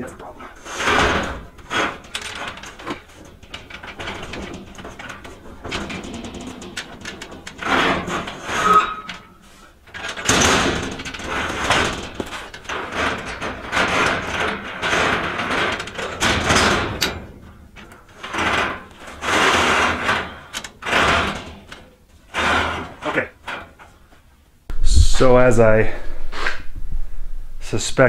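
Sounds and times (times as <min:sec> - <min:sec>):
steel sheet scraping across slats: 0:00.5 - 0:23.9.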